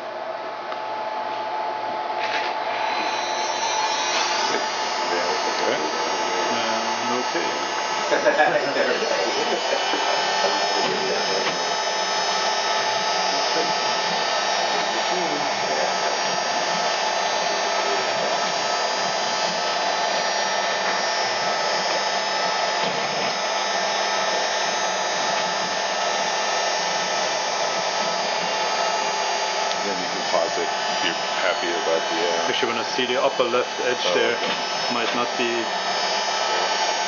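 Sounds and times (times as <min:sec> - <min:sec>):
router spindle high whine: 0:00.0 - 0:37.0.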